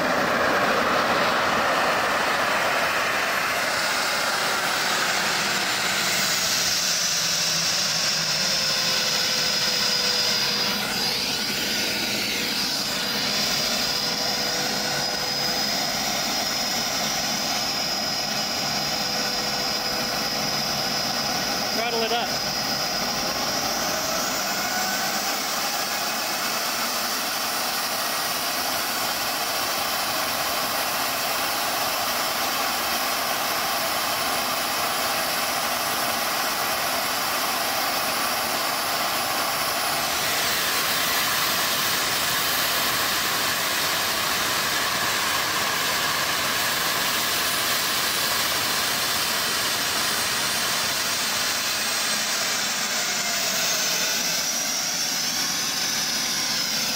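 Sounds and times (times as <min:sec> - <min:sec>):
jet engine roar with whine: 0:00.0 - 0:56.9.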